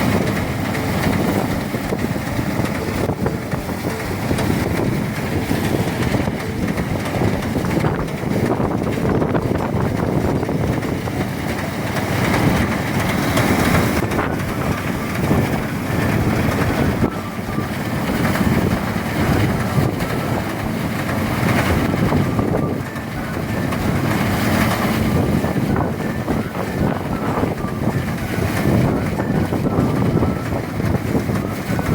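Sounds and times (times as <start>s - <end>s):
rice thresher engine running: 0.0s - 31.9s.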